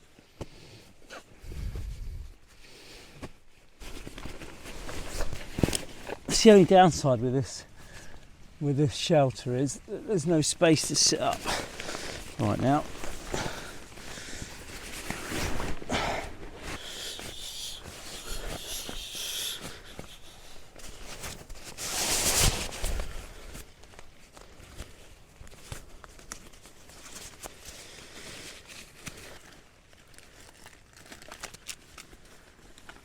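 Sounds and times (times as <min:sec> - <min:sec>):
gear and fabric rustling: 0:00.8 - 0:33.0.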